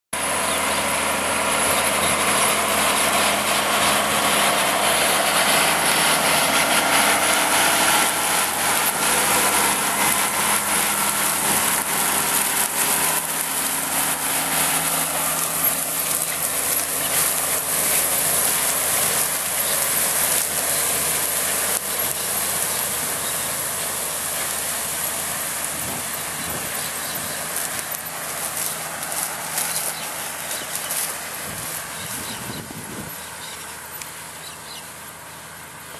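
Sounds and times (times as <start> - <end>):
tractor engine running: 0.1 - 35.9
implement clatter and rattle: 0.2 - 35.9.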